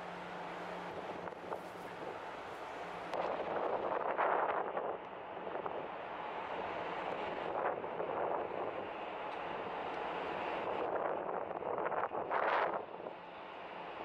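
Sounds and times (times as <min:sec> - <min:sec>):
wind rushing over microphone: 0:00.8 - 0:13.2.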